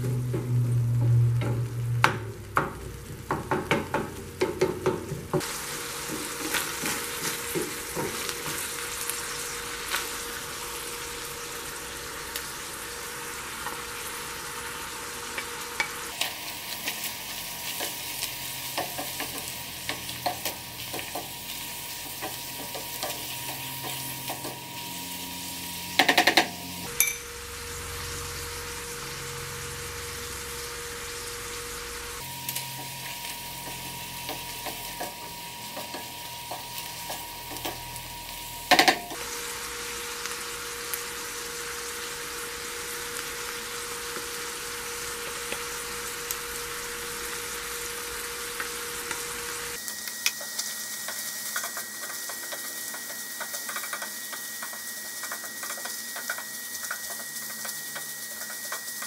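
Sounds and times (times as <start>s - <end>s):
meat sizzling in a frying pan: 0.7s - 59.0s.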